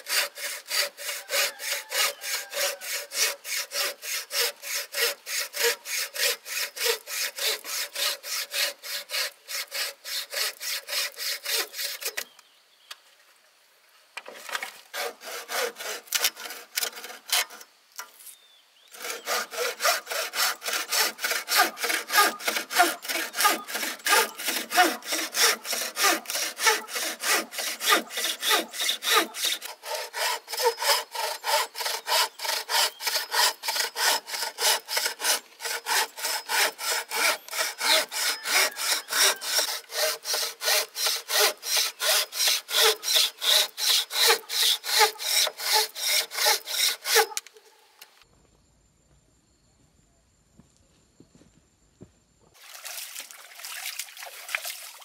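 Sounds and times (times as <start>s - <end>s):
hand saw cutting bamboo: 0.0s - 12.3s, 14.3s - 18.1s, 18.9s - 47.6s.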